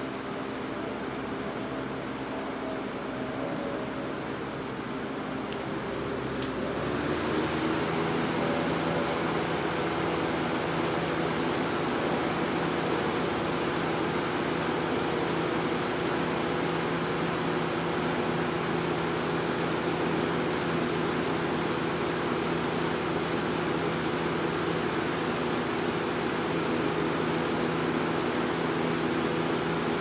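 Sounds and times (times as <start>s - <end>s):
fan air rushing: 0.0s - 30.0s
fan motor hum: 0.0s - 30.0s.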